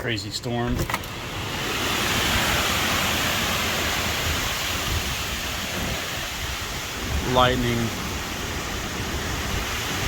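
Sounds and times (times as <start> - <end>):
strong wind: 0.6 - 10.0
heavy rain: 0.9 - 10.0.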